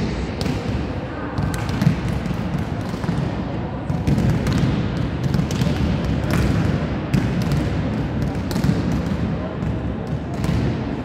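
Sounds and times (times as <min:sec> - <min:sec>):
volleyballs being hit and bounced: 0:00.0 - 0:11.0.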